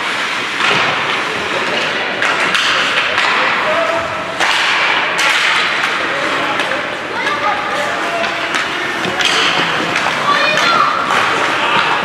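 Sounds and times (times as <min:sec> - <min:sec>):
hockey sticks and puck knocking: 0:00.0 - 0:12.0
skates scraping ice: 0:00.0 - 0:12.0.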